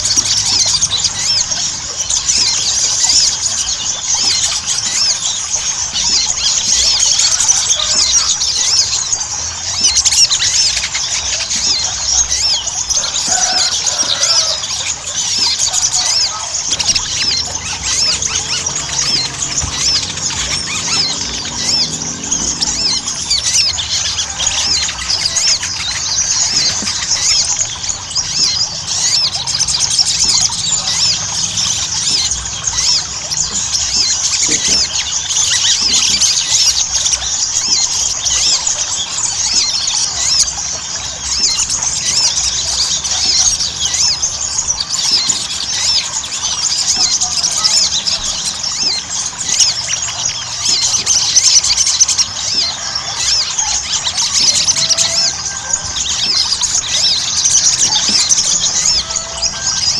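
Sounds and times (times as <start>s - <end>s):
bird singing squeaky chirps: 0.0s - 59.9s.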